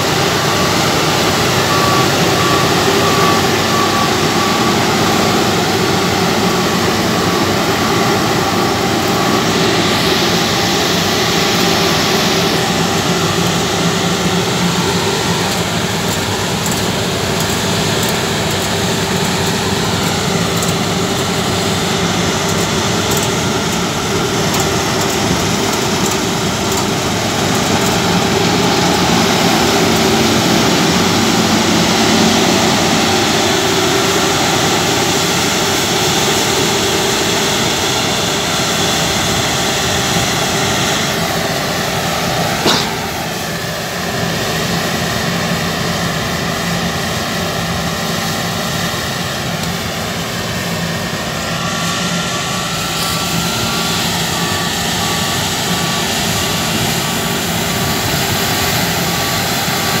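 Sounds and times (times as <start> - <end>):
combine harvester running: 0.0 - 60.0.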